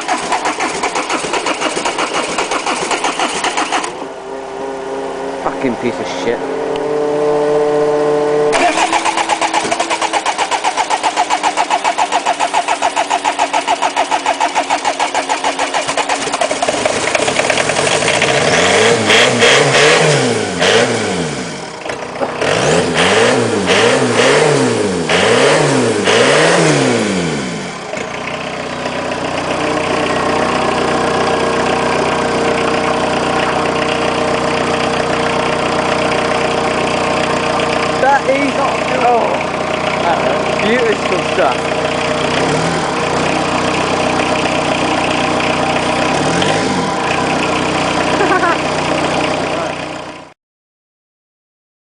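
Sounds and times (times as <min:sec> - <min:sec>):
starter cranking engine: 0:00.0 - 0:04.0, 0:08.5 - 0:50.3
diesel engine revving and idling: 0:00.0 - 0:50.4.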